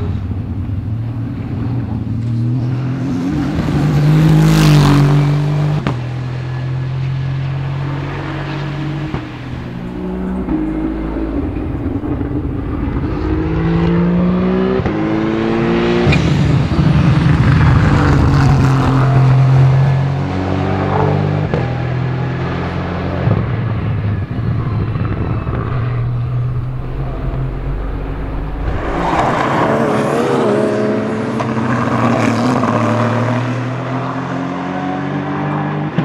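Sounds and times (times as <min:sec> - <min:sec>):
race car driving past at full throttle: 0:00.0 - 0:36.0.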